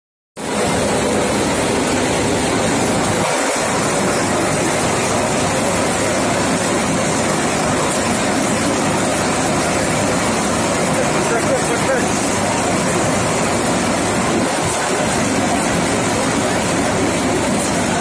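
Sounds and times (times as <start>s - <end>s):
thresher fan and drum rushing: 0.4s - 18.0s.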